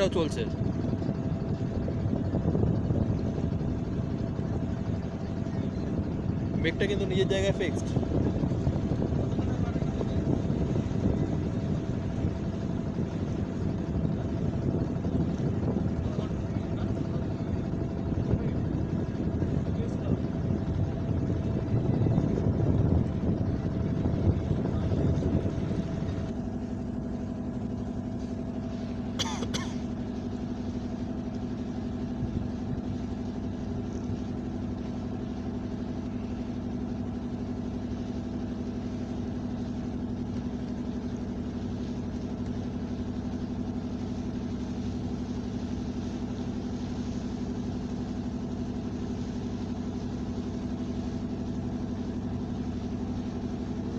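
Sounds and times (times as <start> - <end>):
engine humming: 0.0 - 53.9.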